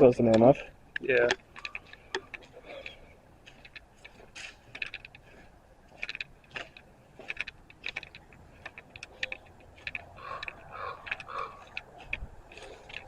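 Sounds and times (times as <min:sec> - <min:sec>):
footsteps on gravel: 0:00.6 - 0:13.0.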